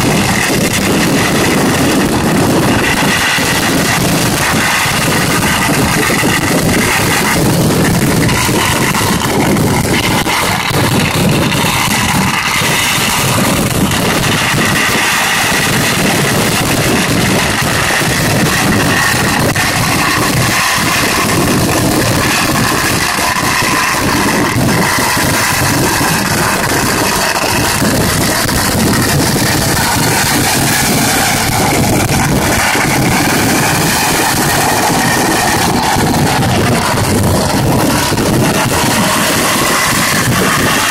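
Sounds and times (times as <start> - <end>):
firecracker bangs and crackles: 0.0 - 40.9.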